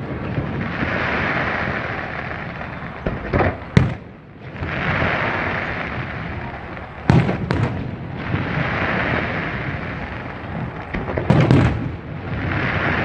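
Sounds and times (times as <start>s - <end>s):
crackling firework bursts: 0.0s - 13.0s
sharp firework bangs: 0.0s - 13.0s.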